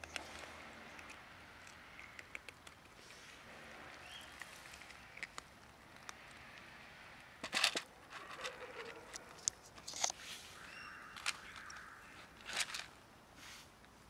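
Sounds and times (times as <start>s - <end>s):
cats crunching dry kibble: 0.0s - 10.2s, 10.9s - 13.0s.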